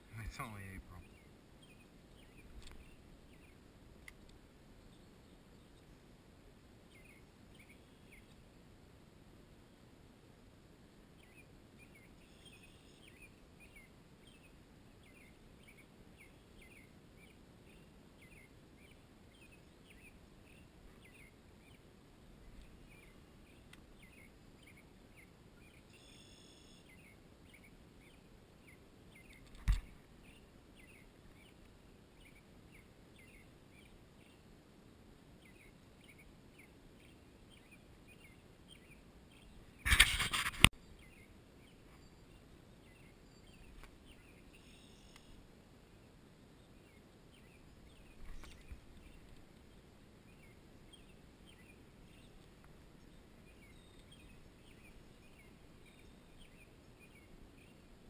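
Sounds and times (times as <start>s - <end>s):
small bird chirping: 0.0s - 4.2s, 6.9s - 8.4s, 11.2s - 34.4s, 35.4s - 45.4s, 46.5s - 57.9s
faint background ambience: 0.0s - 58.0s.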